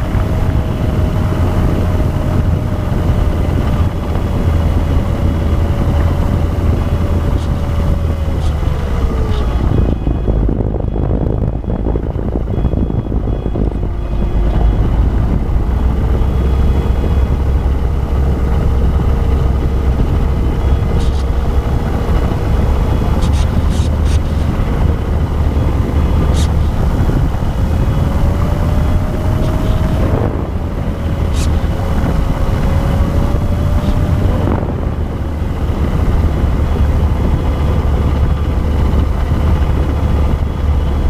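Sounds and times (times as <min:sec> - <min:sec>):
heavy wind rush: 0:00.0 - 0:41.0.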